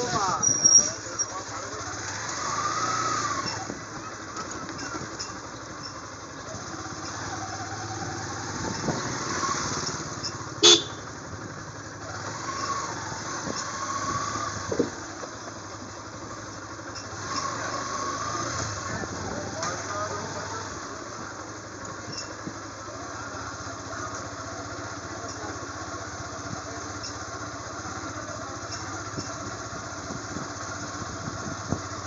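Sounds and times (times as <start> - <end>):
motorcycle and traffic noise: 0.0 - 32.0.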